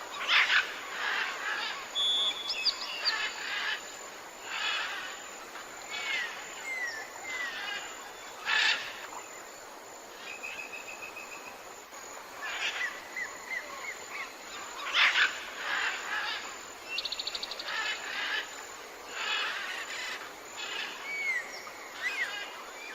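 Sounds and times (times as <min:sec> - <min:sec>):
forest birds calling: 0:00.0 - 0:09.3, 0:12.4 - 0:22.9
steady background hiss: 0:00.0 - 0:22.9.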